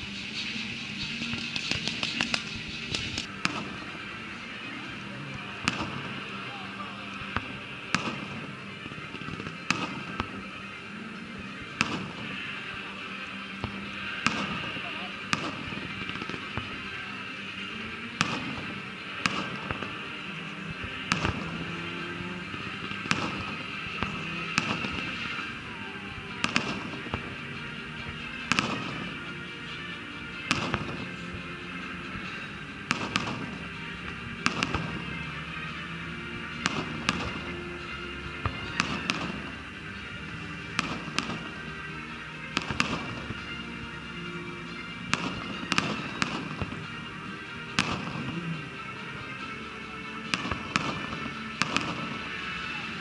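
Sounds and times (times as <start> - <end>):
fireworks bursting with bangs: 0.0 - 53.0.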